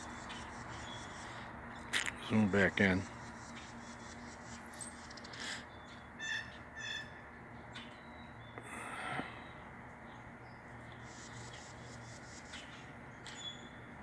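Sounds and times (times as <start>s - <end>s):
bird calls: 0.0s - 13.9s.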